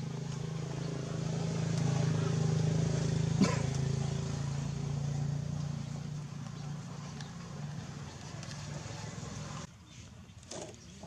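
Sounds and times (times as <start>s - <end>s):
low engine hum: 0.0s - 9.7s.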